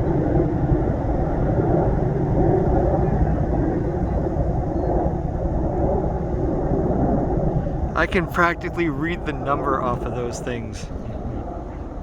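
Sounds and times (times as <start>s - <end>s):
helicopter rotor rumble: 0.0s - 12.0s.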